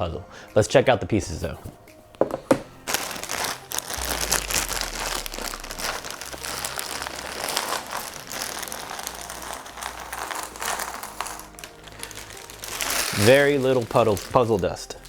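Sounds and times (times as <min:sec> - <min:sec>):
bag crinkling: 0:01.5 - 0:15.0.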